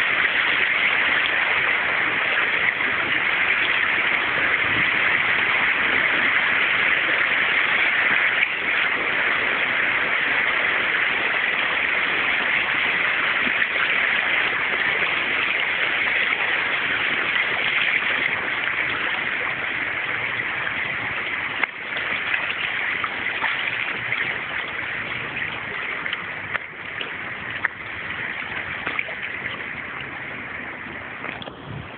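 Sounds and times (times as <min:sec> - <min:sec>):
shallow water rushing over stones: 0:00.0 - 0:31.9.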